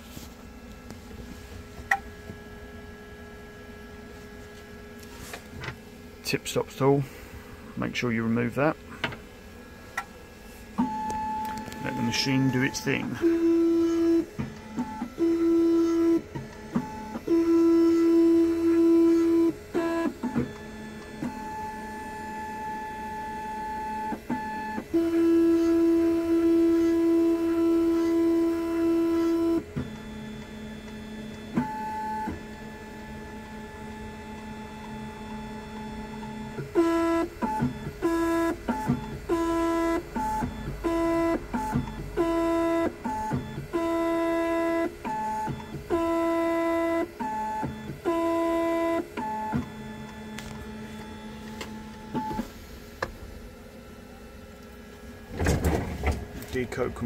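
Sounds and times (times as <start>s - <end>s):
key-cutting machine motor whine: 0.4s - 57.0s.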